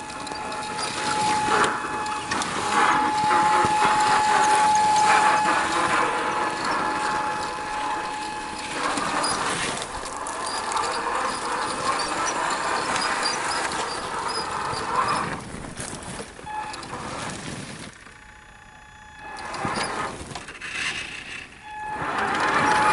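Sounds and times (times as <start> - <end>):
drivetrain and tyres over ground: 0.0 - 22.9
motor and gear whine: 0.0 - 22.9.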